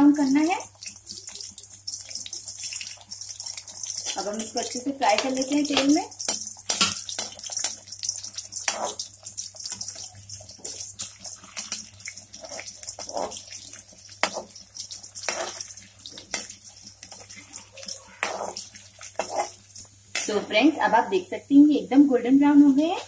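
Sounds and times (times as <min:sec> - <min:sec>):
food sizzling in hot oil: 0:00.0 - 0:23.0
metal spoon scraping a pan: 0:01.2 - 0:20.6.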